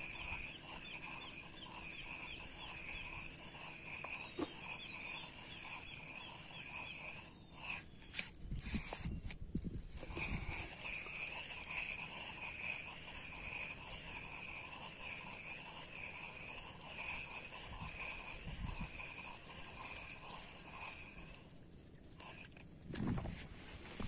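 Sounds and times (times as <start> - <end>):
spinning reel whirring: 0.0 - 9.4, 10.0 - 21.5.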